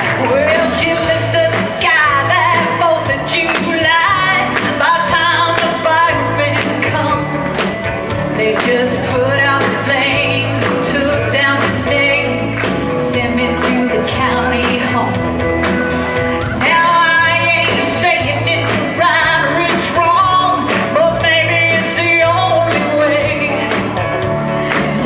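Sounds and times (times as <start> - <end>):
woman singing into a microphone: 0.0 - 15.4, 16.4 - 25.0
amplified backing music with beat: 0.0 - 25.0.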